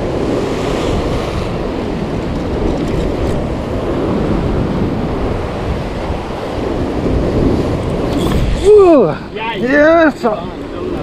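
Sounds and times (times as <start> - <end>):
ocean surf breaking on rocks: 0.0 - 11.0
wind buffeting microphone: 0.0 - 11.0.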